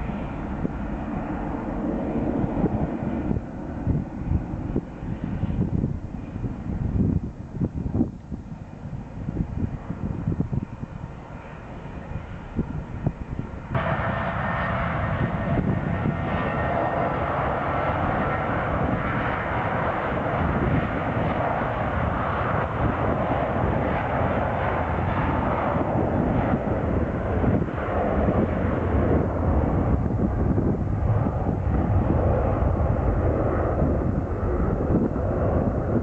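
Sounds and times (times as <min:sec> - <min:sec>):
airliner engines roaring: 0:00.0 - 0:36.0.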